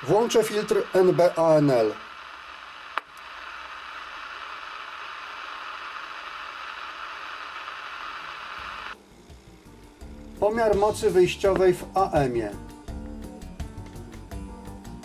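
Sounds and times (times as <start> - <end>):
radio receiver hissing: 0.0 - 13.3.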